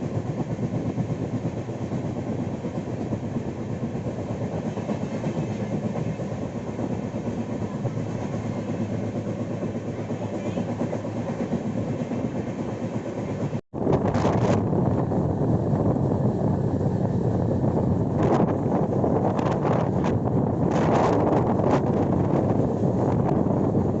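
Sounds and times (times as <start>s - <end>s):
train wheels on rail: 0.0s - 24.0s.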